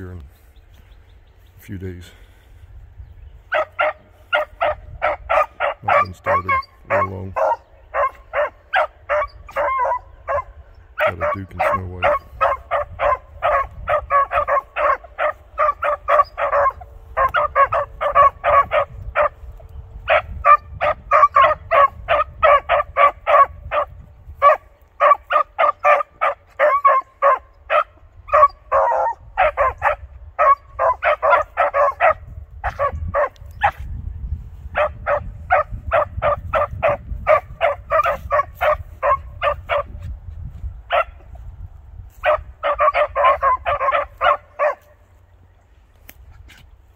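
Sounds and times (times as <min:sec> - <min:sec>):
beagles barking: 0:03.4 - 0:33.9, 0:34.6 - 0:40.1, 0:40.9 - 0:41.4, 0:42.1 - 0:45.2.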